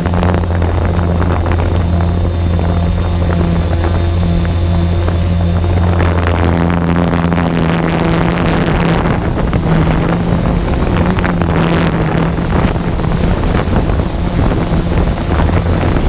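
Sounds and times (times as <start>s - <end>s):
drone propellers humming: 0.0s - 16.0s
wind buffeting microphone: 0.0s - 16.0s.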